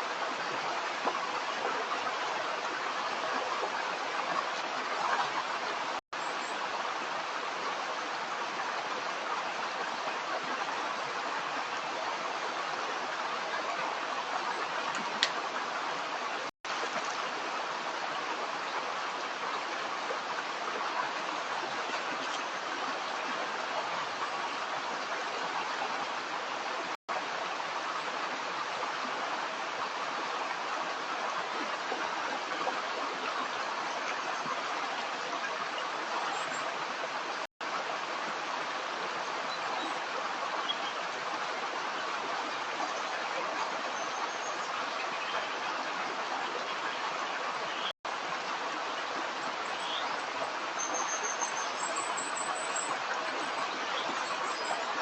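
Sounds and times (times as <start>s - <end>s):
stream flowing water: 0.0s - 55.0s.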